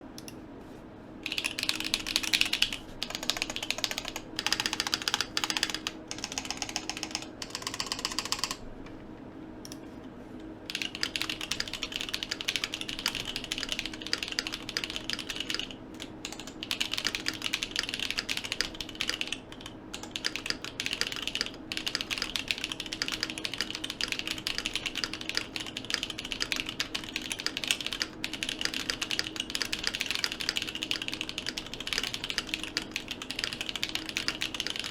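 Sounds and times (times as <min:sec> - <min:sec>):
mechanical keyboard typing: 0:01.2 - 0:08.6, 0:10.7 - 0:34.9.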